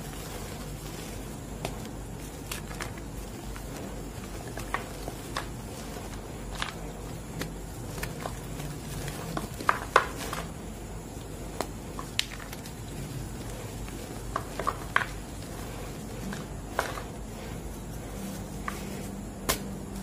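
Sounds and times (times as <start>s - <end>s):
hands crushing chalk: 0.0s - 20.0s.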